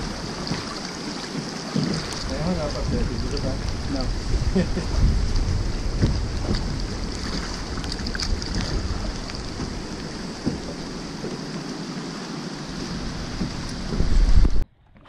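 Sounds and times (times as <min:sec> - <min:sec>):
river water rushing along hull: 0:00.0 - 0:14.6
wind buffeting microphone: 0:00.0 - 0:14.7.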